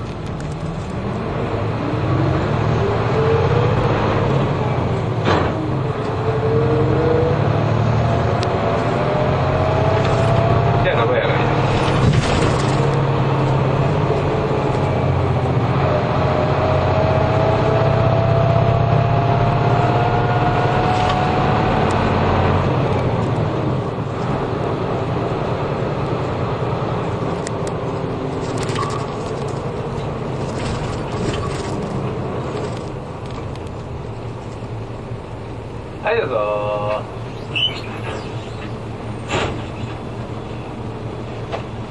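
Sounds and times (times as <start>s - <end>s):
bus engine hum with whine: 0.0s - 41.9s.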